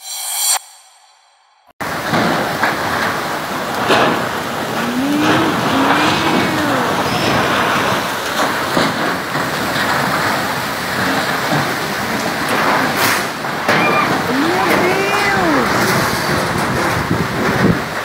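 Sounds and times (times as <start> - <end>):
storm wind and heavy rain: 1.8 - 18.0.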